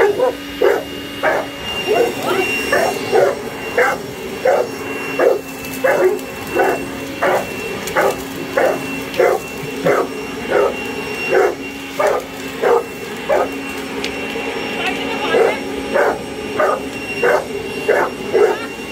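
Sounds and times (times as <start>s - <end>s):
large dog barking: 0.0s - 13.6s, 15.3s - 18.7s
vacuum-blower motor hum: 0.0s - 18.9s.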